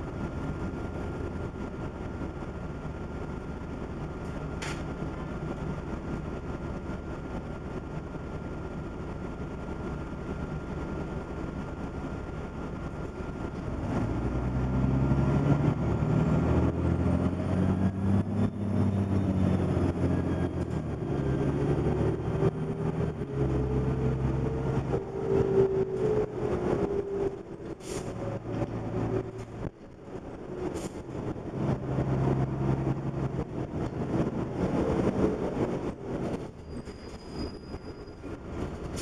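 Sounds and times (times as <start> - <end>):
bus diesel engine accelerating: 0.0 - 39.0.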